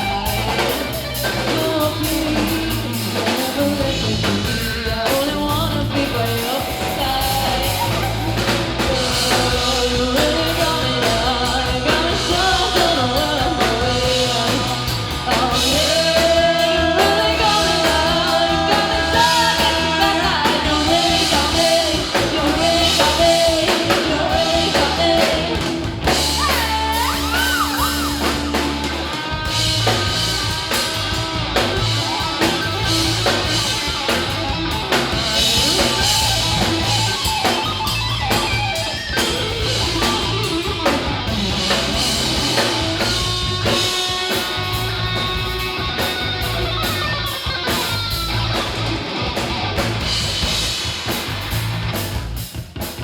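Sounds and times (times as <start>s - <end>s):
bent electric guitar notes: 0.0s - 52.3s
live rock band: 0.0s - 53.0s.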